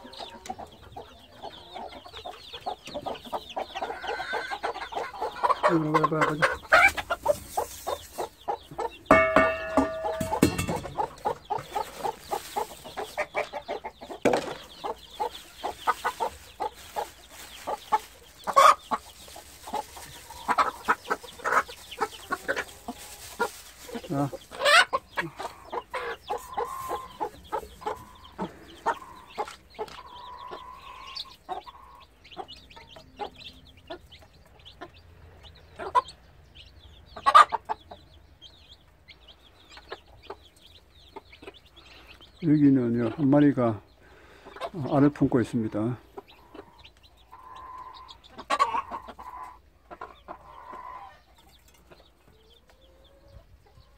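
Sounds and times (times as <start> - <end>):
hen clucking: 0.0 - 53.9.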